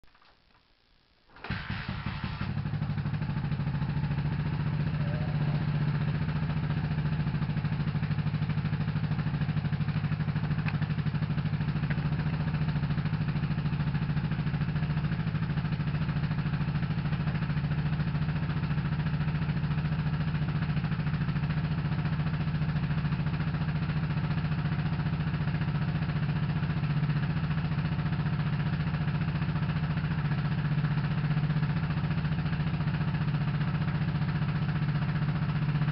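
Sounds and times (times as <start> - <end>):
motorcycle engine idling: 1.4 - 35.9.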